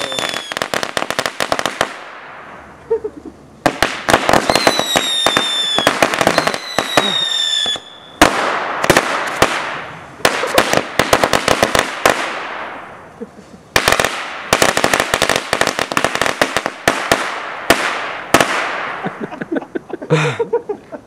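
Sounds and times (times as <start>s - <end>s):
firecrackers banging: 0.0s - 19.8s.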